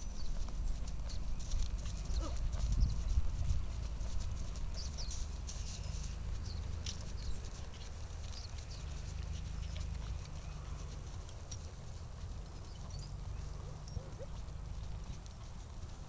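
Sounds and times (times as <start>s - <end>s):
muffled hoofbeats on grass: 0.0s - 16.0s
steady low rumble: 0.0s - 16.0s.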